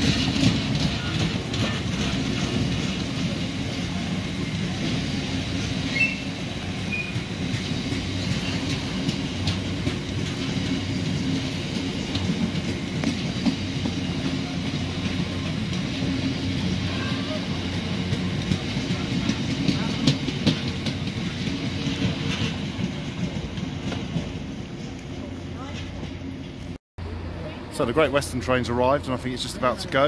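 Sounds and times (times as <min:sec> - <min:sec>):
train wheels clattering over rail joints: 0:00.0 - 0:26.5.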